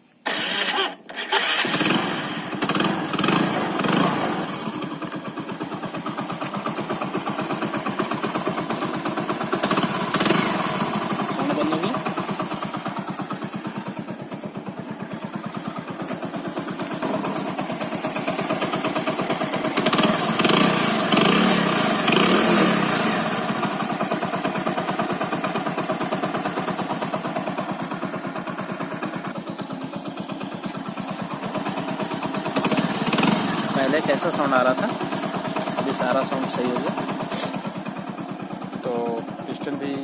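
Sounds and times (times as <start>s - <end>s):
motorcycle engine running: 0.1s - 40.0s.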